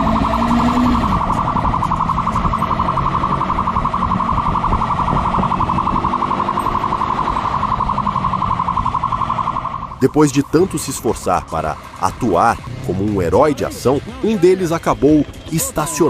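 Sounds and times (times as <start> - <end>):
low engine rumble: 0.0 - 15.9
police siren pulsing: 0.0 - 16.0.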